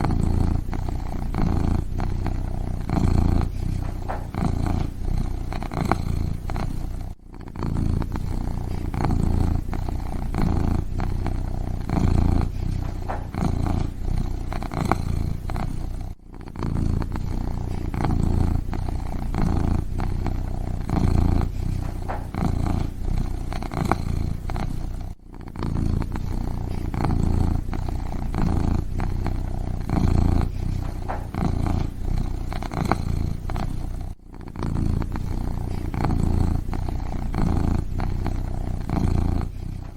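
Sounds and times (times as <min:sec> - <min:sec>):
kitten purring: 0:00.0 - 0:39.9.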